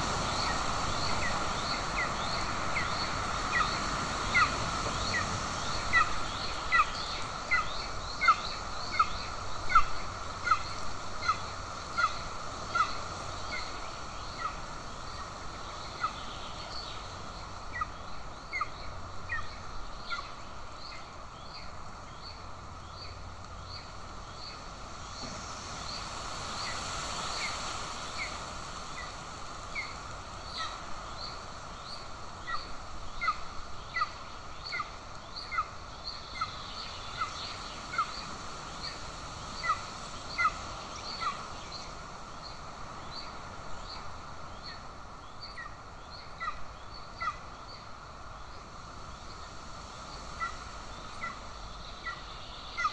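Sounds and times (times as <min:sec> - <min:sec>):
steady background hiss: 0:00.0 - 0:52.9.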